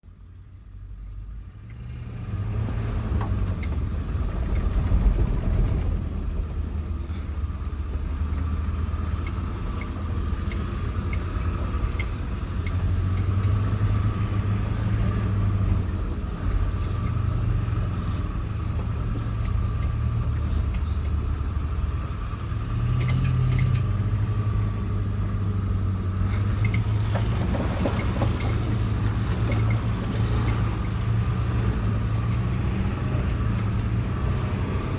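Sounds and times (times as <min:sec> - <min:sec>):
vehicle engine revving: 0:01.5 - 0:34.9.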